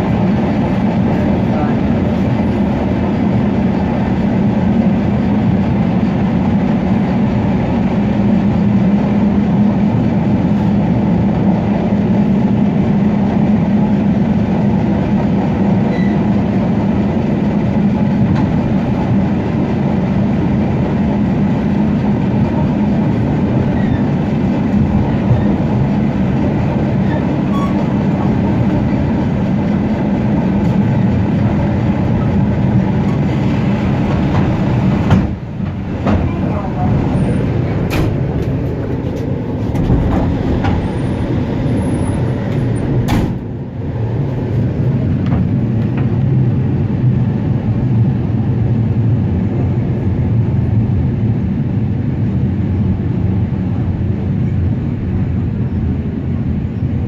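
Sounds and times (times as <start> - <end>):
train rolling rumble: 0.0 - 57.0.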